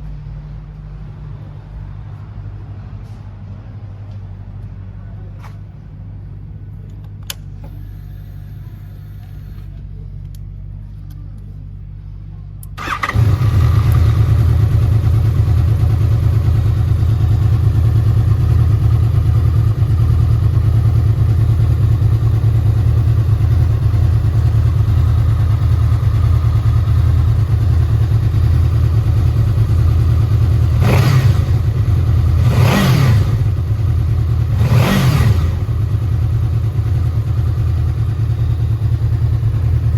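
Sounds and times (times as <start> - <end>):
motorcycle engine idling: 4.4 - 39.9.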